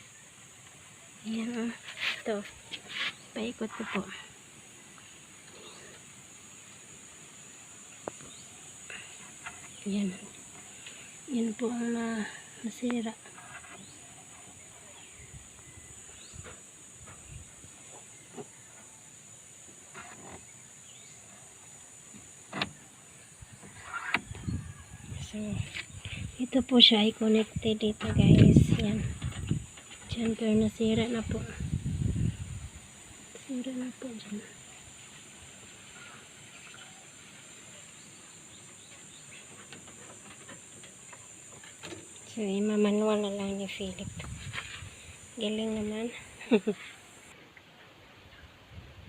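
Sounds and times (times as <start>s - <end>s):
high-pitched hiss: 0.0s - 47.4s.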